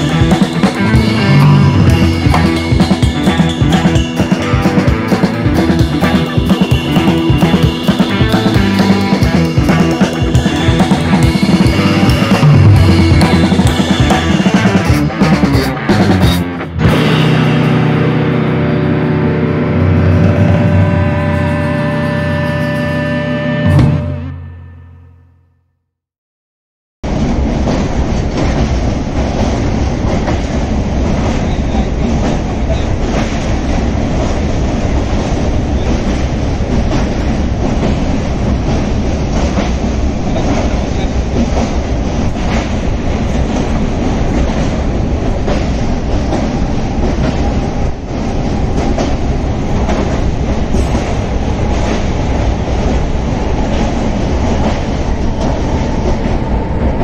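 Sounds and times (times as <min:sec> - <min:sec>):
train wheels rumbling on rails: 0:00.0 - 0:24.4, 0:27.0 - 0:57.0.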